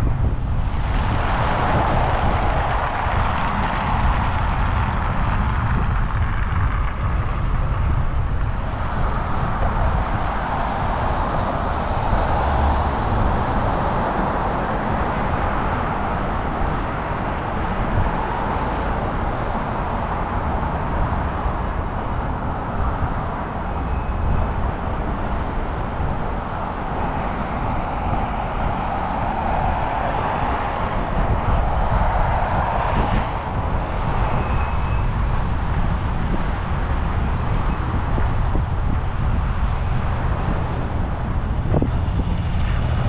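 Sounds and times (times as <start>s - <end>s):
road traffic noise: 0.0s - 43.0s.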